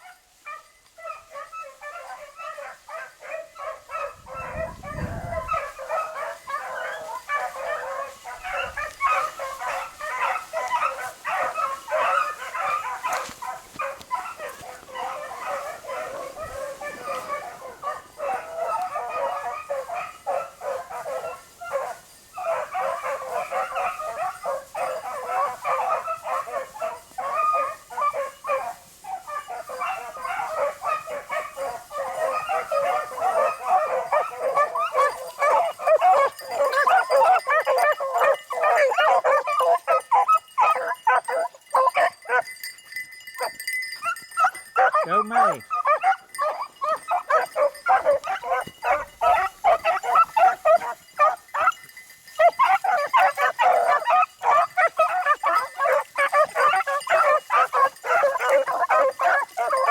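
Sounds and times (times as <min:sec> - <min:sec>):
beagles baying: 0:00.0 - 0:59.9.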